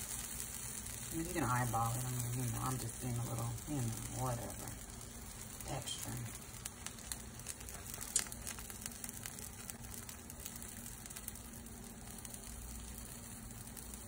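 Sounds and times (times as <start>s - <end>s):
batter sizzling on griddle: 0.0s - 14.0s.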